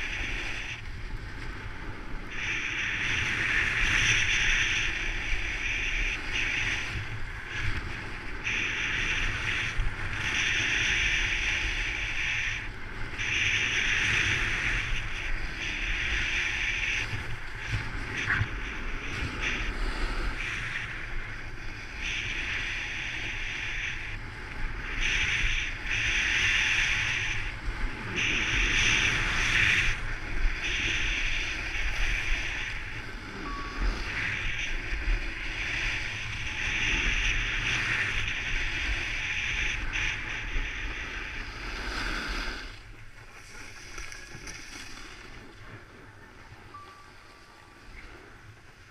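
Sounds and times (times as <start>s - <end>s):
skis sliding over snow: 0.0s - 46.0s
wind buffeting microphone: 0.0s - 48.9s.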